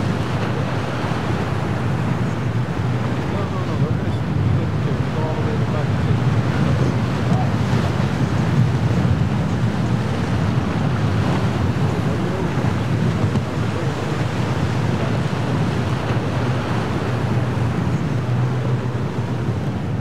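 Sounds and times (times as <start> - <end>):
choppy water: 0.0 - 20.0
outboard motors droning: 0.0 - 20.0
surf breaking: 0.0 - 20.0
wind buffeting microphone: 0.0 - 20.0.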